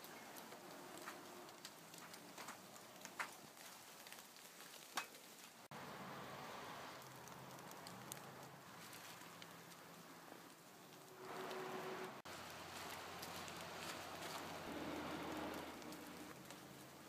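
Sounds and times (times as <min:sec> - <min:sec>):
light rain hissing: 0:00.0 - 0:17.0
sharp raindrops: 0:00.0 - 0:17.0.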